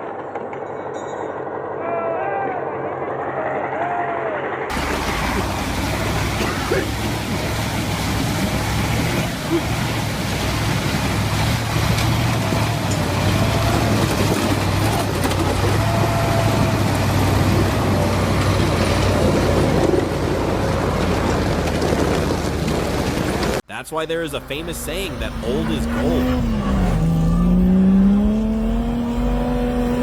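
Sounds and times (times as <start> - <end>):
road noise: 4.7 - 30.0
vehicle engine running: 4.7 - 30.0.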